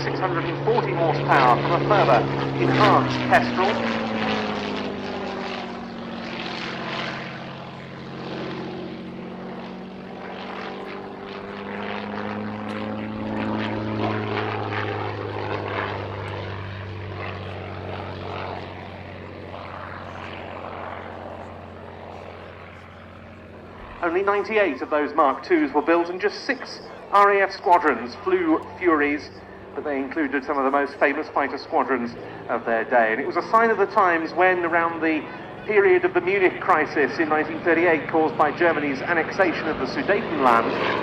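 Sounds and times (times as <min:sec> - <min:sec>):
biplane piston engine: 0:00.0 - 0:41.0.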